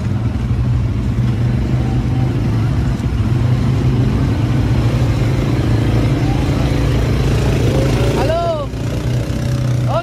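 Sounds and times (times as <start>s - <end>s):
quad bike engines humming: 0.0s - 10.0s.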